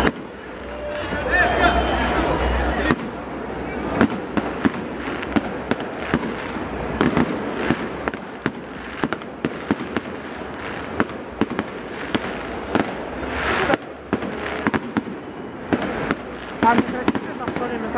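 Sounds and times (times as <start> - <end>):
fireworks bangs: 0.0 - 17.9
steady background noise: 0.0 - 17.9.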